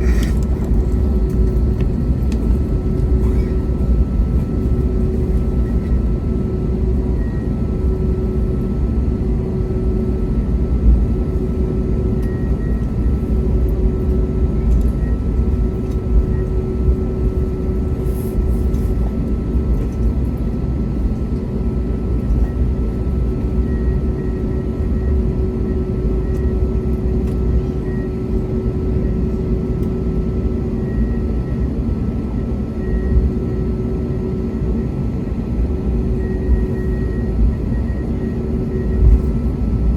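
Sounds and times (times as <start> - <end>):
aircraft cabin rumble: 0.0 - 39.9
mid-pitched hum: 0.0 - 39.9.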